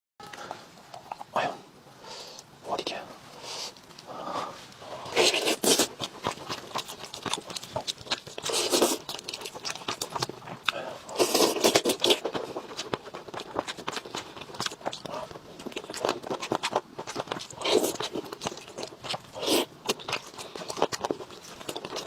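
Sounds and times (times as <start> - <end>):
person chewing and crunching food: 3.7 - 22.0.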